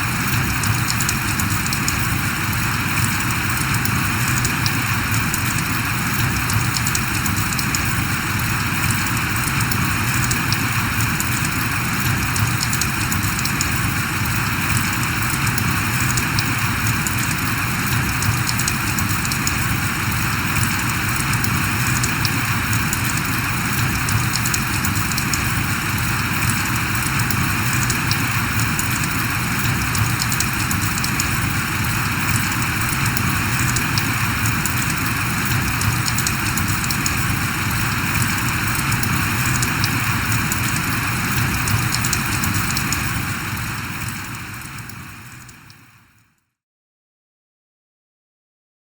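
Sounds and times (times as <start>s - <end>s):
steady rain falling: 0.0s - 45.8s.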